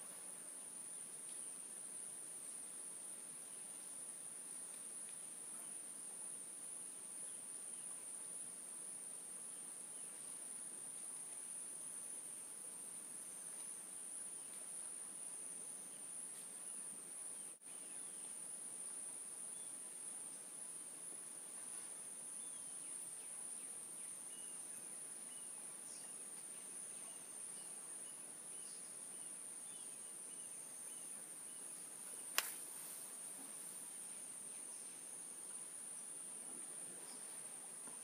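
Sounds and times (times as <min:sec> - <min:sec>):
crickets chirping: 0:00.0 - 0:38.0
faint hiss: 0:00.0 - 0:38.0.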